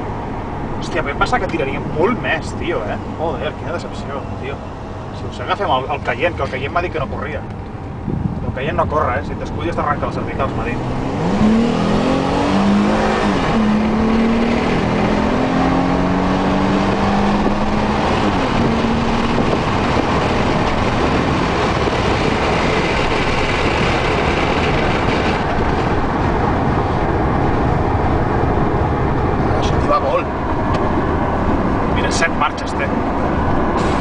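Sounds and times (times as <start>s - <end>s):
car engine accelerating with upshifts: 0.0s - 34.0s
road and wind noise in car: 0.0s - 34.0s.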